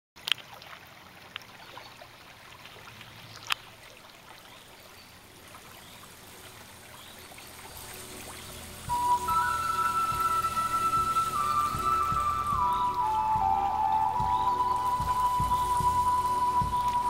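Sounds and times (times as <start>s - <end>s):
trickling water: 0.2s - 17.0s.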